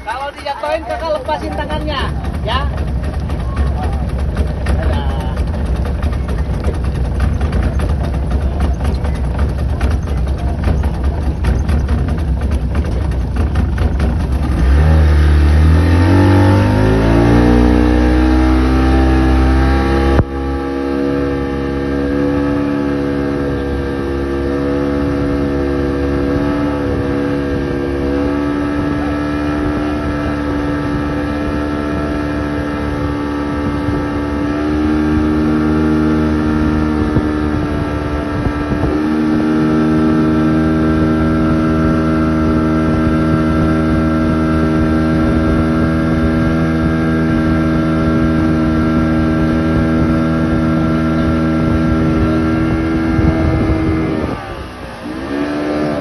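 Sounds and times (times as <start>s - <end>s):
motorboat engine: 0.0s - 56.0s.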